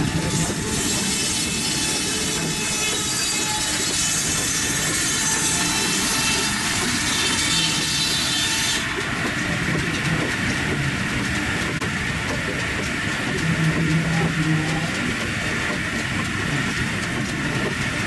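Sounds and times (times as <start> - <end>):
sawmill machinery din: 0.0 - 18.0.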